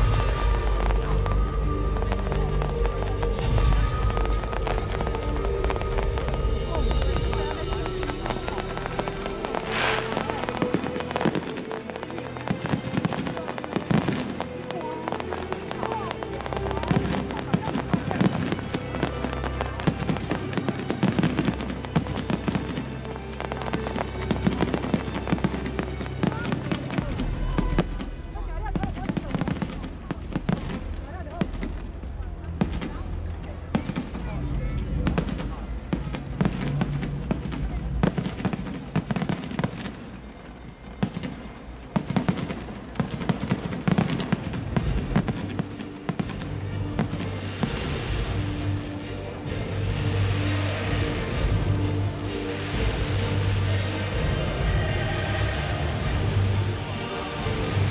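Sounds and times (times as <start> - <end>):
fireworks bursting and crackling: 0.0 - 57.9.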